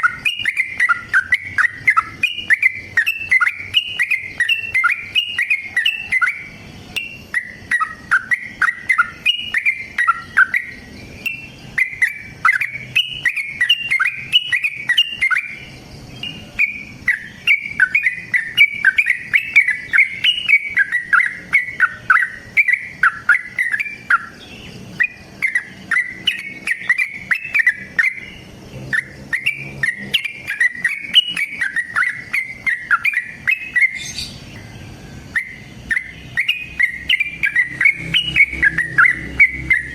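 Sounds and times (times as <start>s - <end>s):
bird bubbly chirping song: 0.0s - 39.9s.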